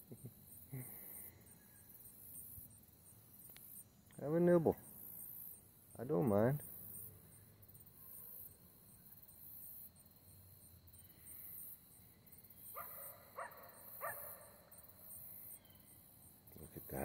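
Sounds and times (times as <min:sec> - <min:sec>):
katydids and crickets buzzing: 0:00.0 - 0:17.0.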